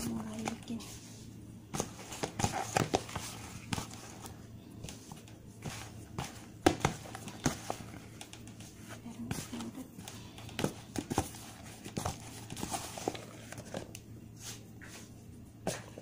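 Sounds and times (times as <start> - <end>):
dough being kneaded by hand: 0.0 - 16.0.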